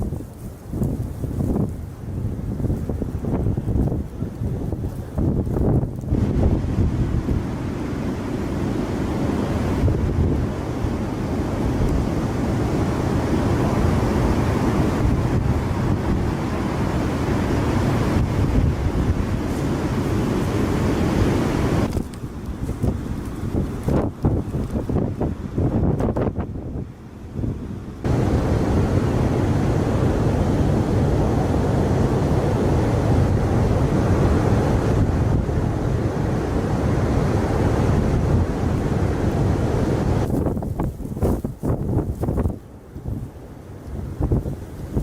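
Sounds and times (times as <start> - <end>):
surf: 0.0 - 26.4, 28.0 - 45.0
strong wind buffeting microphone: 0.0 - 45.0.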